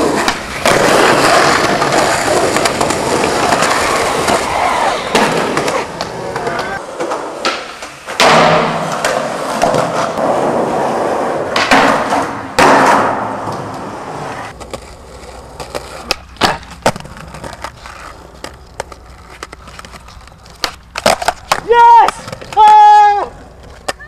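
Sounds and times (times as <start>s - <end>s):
skateboard clacking on ground: 0.0s - 10.6s, 11.4s - 24.0s
skateboard wheels rolling on concrete: 0.0s - 24.0s.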